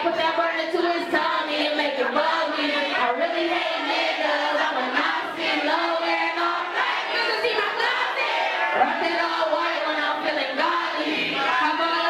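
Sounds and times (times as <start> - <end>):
woman singing into microphone: 0.0 - 8.0, 8.7 - 12.0
crowd singing along: 0.0 - 12.0.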